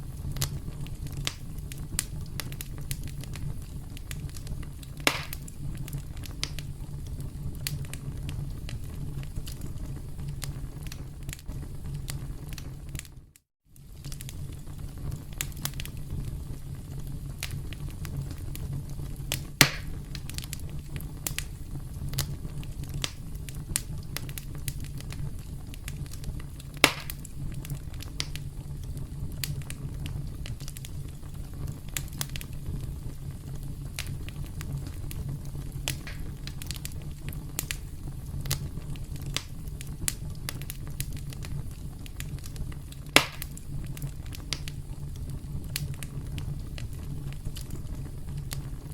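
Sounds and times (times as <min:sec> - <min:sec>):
campfire crackling: 0:00.0 - 0:48.9
low rumble of burning wood: 0:00.0 - 0:48.9.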